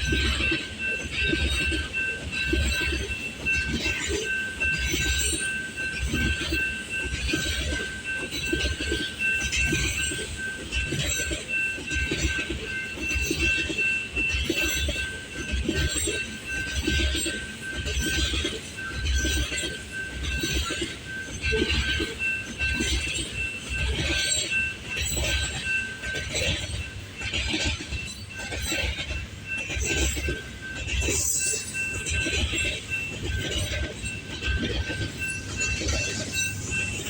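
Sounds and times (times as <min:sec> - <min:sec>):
high squeal from train wheels: 0:00.0 - 0:37.0
train wheels clattering on rails: 0:00.0 - 0:37.0.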